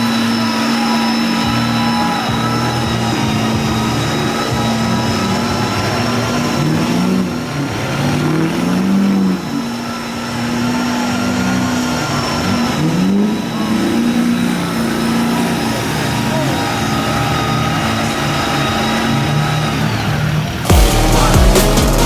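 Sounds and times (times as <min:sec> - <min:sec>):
steady high whine: 0:00.0 - 0:22.0
truck engine revving: 0:00.0 - 0:22.0.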